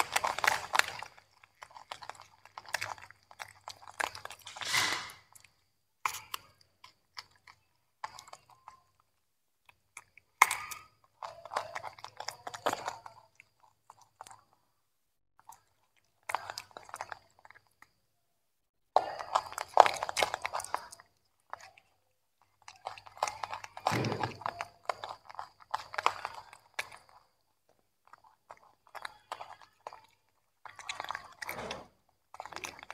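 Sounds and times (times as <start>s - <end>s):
monkeys chewing vegetables crunching: 0.0s - 14.7s, 15.4s - 18.0s, 18.9s - 32.9s.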